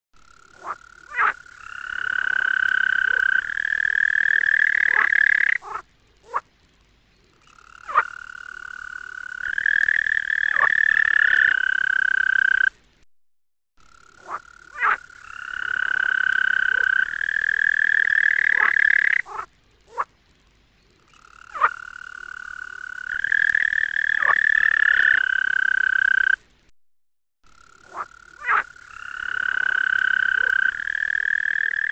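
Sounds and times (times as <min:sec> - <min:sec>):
toad trilling call: 0:00.4 - 0:06.4, 0:07.4 - 0:12.7, 0:14.1 - 0:20.1, 0:21.1 - 0:26.4, 0:27.6 - 0:31.9.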